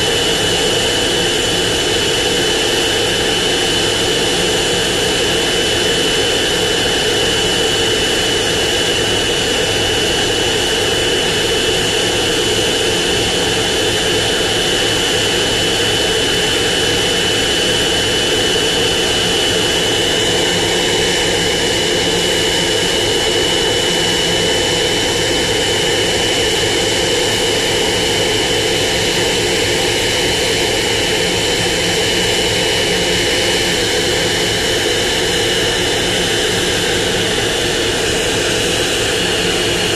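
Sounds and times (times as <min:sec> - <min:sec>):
high-pitched engine whine: 0:00.0 - 0:39.9
jet engines running: 0:00.0 - 0:39.9.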